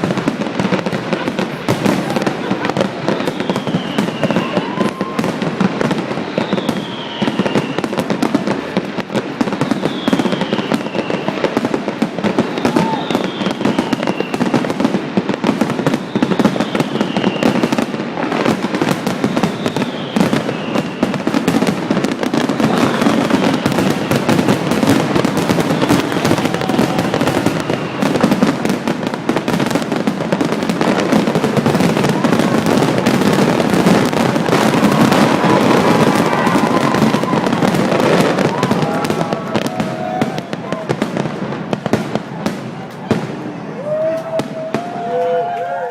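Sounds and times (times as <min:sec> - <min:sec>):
fireworks bangs and crackles: 0:00.0 - 0:45.9
fireworks falling whistles: 0:00.0 - 0:45.9.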